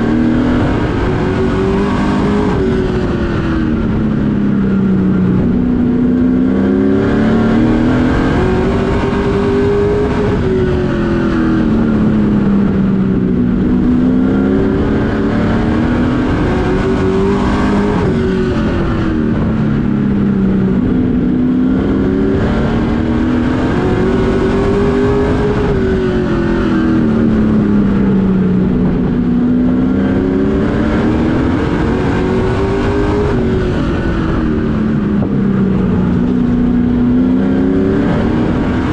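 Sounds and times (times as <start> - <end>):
race truck engine: 0.0 - 38.9.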